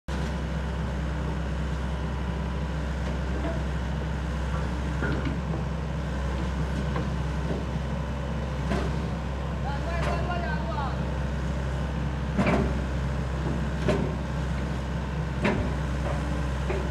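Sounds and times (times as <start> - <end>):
excavator diesel engine running: 0.1 - 16.9.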